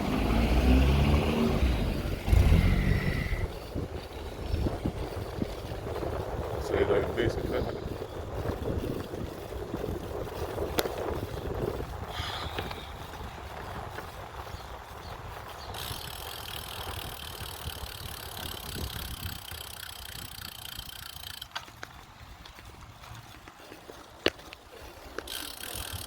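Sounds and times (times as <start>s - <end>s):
bicycle rolling rumble: 0.0s - 26.0s
wind on microphone: 0.6s - 23.3s.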